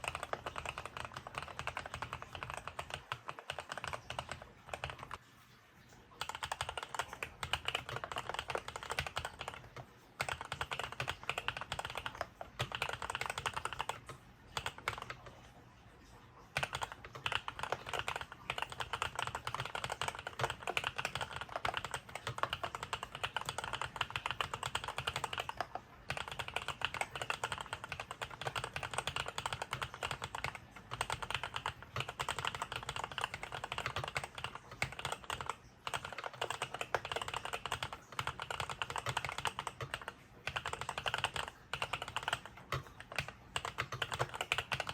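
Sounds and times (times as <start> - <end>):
mechanical keyboard typing: 0.0 - 5.3, 6.1 - 15.6, 16.4 - 44.9.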